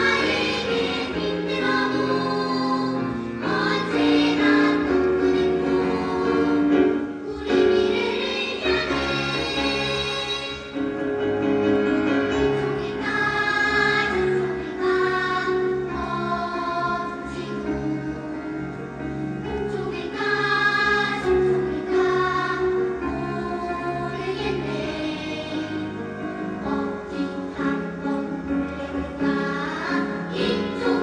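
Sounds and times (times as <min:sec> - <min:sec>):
children's choir singing: 0:00.0 - 0:31.0.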